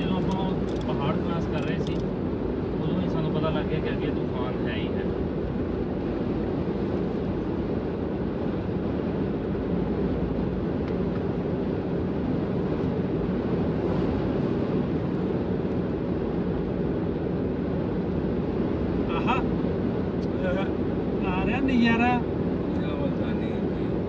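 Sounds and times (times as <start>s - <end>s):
road and engine noise: 0.0s - 24.0s.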